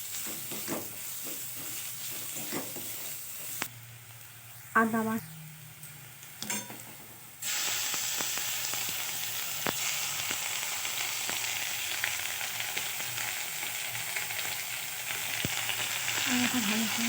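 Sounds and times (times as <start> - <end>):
onions sizzling in hot oil: 0.0 - 4.7, 5.7 - 17.0.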